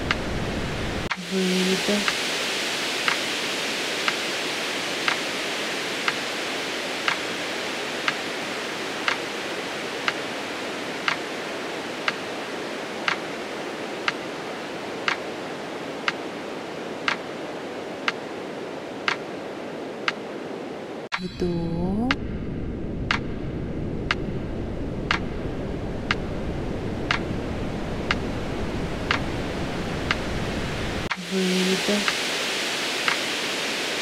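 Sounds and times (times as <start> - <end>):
steady hiss: 0.0 - 21.6, 23.1 - 34.0.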